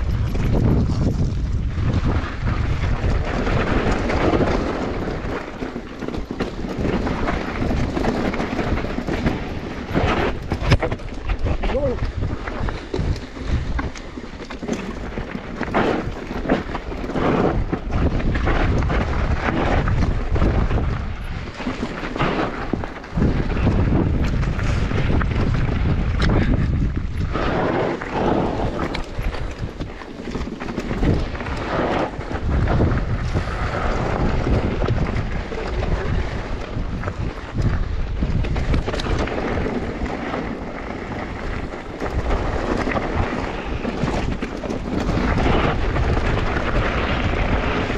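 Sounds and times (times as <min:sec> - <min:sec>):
mountain bike rattling and knocking: 0:00.0 - 0:47.9
wind on microphone: 0:00.0 - 0:47.9.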